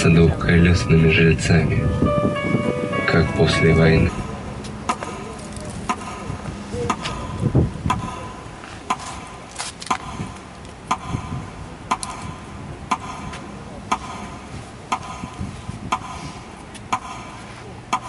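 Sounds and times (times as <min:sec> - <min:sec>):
clock ticking: 0:03.1 - 0:18.0.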